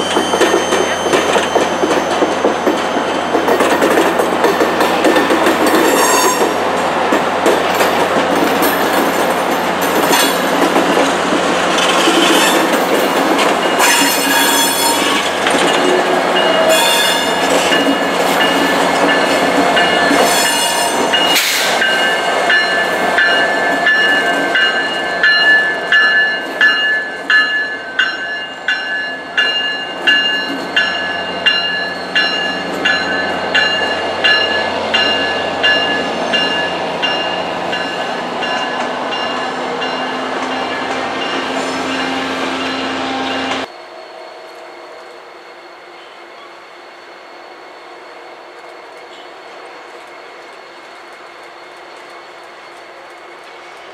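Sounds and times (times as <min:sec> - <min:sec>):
train wheels squealing on rail: 0:00.0 - 0:06.7, 0:07.6 - 0:53.9.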